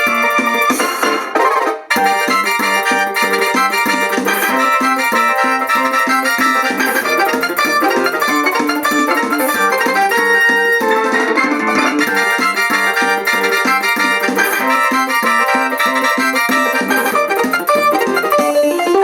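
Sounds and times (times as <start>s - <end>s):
electronic keyboard music: 0.0s - 19.0s.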